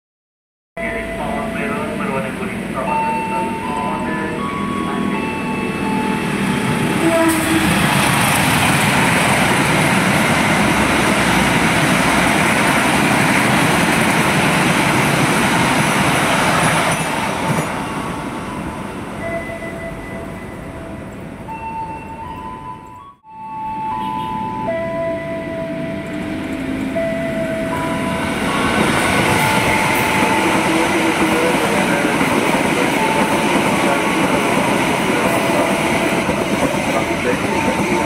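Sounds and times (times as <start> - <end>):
train passing at speed: 0.8 - 38.0.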